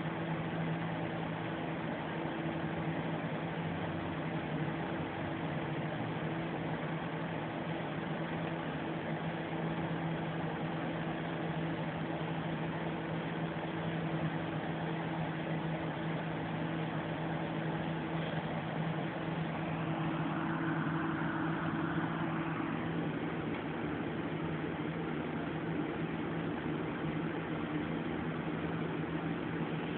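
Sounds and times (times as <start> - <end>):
constant hiss: 0.0 - 29.9.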